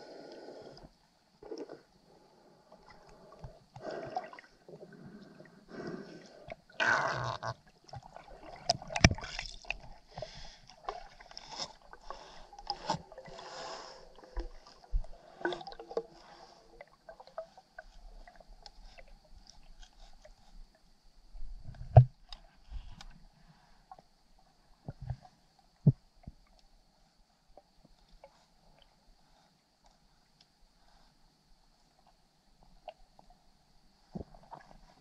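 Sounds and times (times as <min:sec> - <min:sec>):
underwater water swishes and gurgles: 0:00.0 - 0:35.0.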